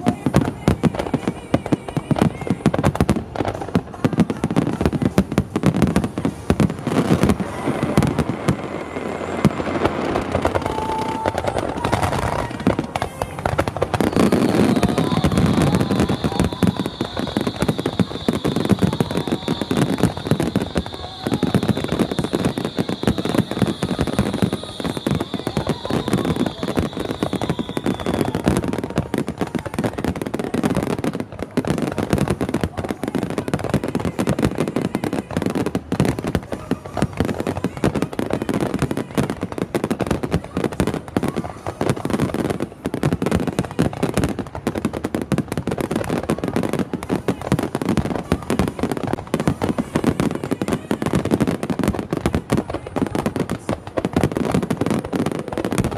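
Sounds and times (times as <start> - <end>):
fireworks bursting and crackling: 0.0 - 55.9.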